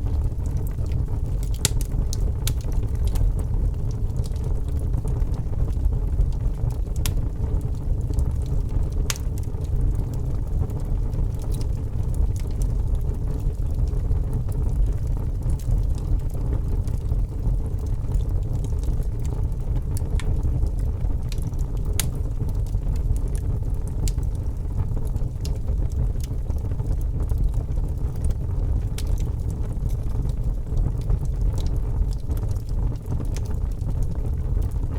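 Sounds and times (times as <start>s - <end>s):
fire flames rumbling: 0.0s - 34.9s
wood crackling and popping: 0.0s - 34.9s.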